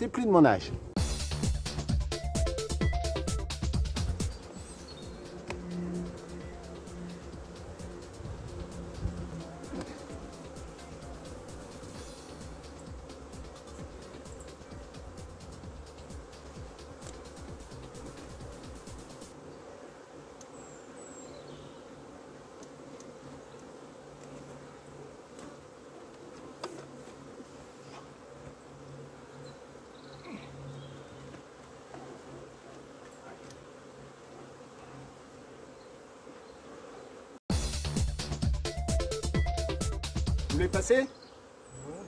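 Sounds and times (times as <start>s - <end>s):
bees buzzing: 0.0s - 42.0s.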